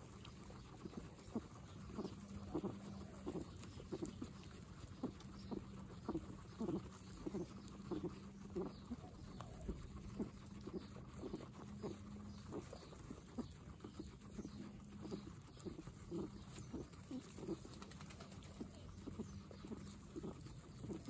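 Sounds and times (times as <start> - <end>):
guinea pigs munching grass: 0.0 - 21.0.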